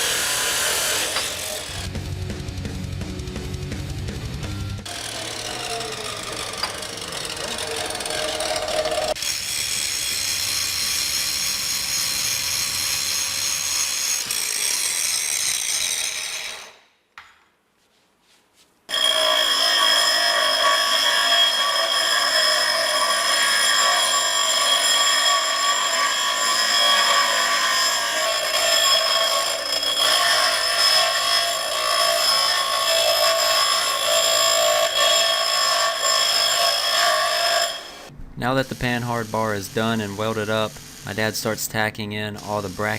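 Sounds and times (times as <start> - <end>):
power saw cutting metal: 0.0 - 4.0, 4.8 - 16.8, 18.9 - 38.1, 38.7 - 42.9.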